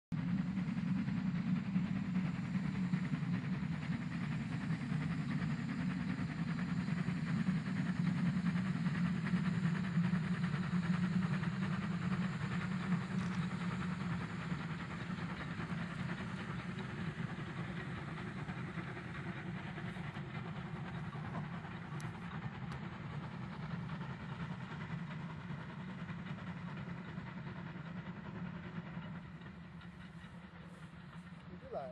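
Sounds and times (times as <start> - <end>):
steam train rumbling past: 0.2 - 31.9.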